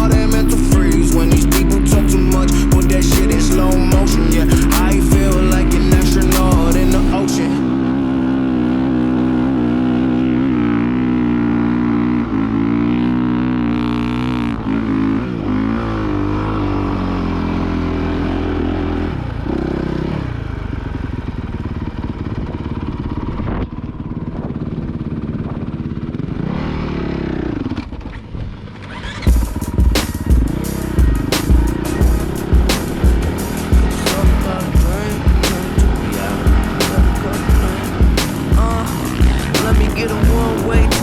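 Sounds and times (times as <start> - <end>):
dirt bike engine revving: 0.0 - 20.4, 25.4 - 41.0.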